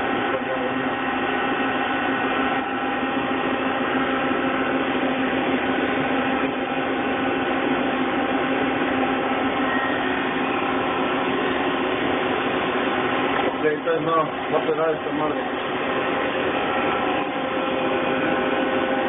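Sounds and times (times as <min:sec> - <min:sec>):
lathe machine hum: 0:00.0 - 0:19.0.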